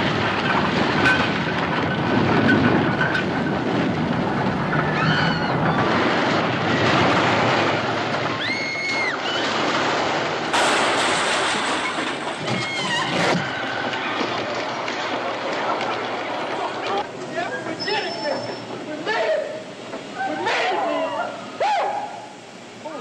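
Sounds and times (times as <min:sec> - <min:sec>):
rumble and hiss of wreck: 0:00.0 - 0:23.0.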